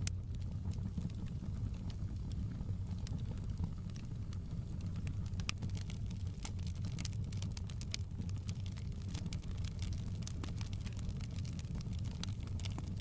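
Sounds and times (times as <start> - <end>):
fire crackling and popping: 0.0 - 13.0
fire flames rumbling: 0.1 - 13.0.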